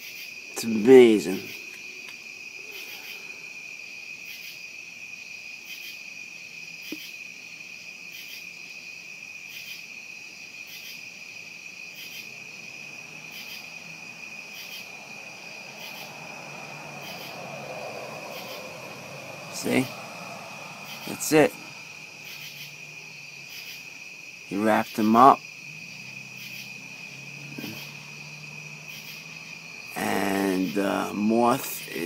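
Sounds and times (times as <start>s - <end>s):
crickets trilling: 0.0s - 32.0s
higher cricket chirp: 0.0s - 32.0s.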